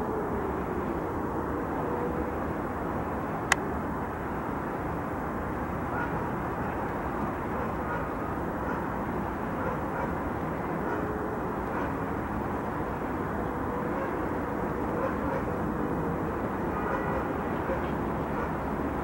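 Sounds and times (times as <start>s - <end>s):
low city rumble: 0.0s - 19.0s.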